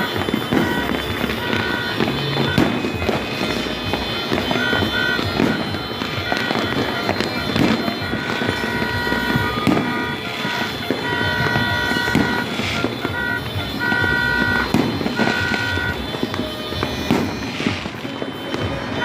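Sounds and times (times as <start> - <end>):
fireworks banging and crackling: 0.0 - 19.0
horn tooting: 0.0 - 19.0.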